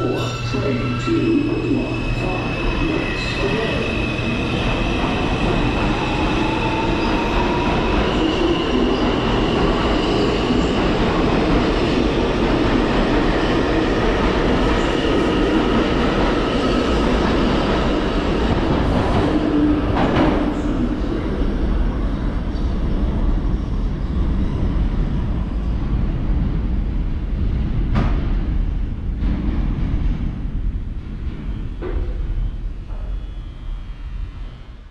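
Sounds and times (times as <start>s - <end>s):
subway train wheels rumbling: 0.0s - 34.9s.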